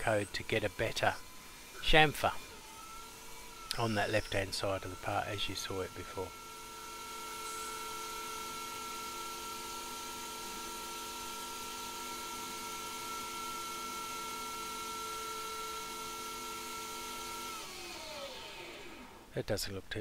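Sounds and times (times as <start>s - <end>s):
lathe high-pitched whine: 0.0s - 19.3s.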